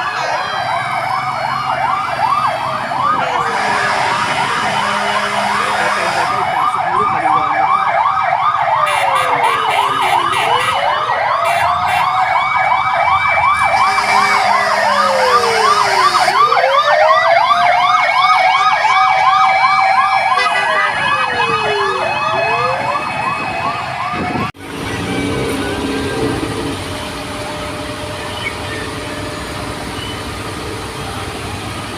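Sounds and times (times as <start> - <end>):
fire truck sirens: 0.0 - 31.9.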